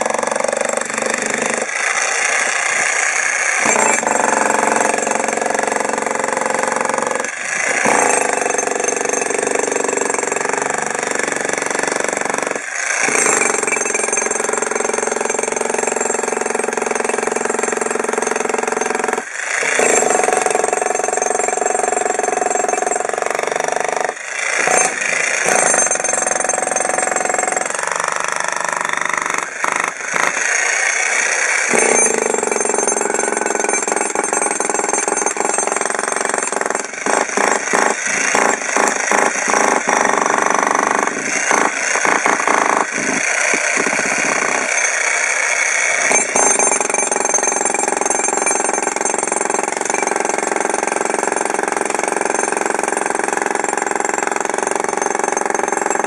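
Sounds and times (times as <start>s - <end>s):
jackhammer breaking concrete: 0.0s - 56.0s.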